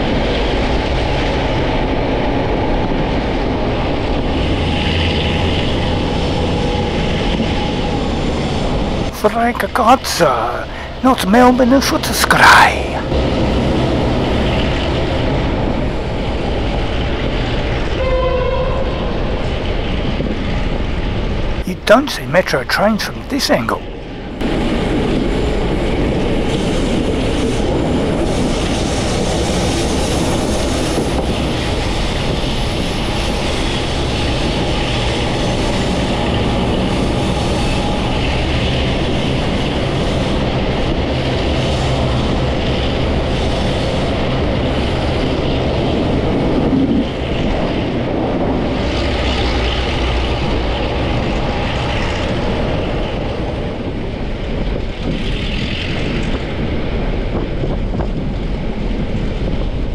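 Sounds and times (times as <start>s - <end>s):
train carriage rumbling on track: 0.0s - 59.9s.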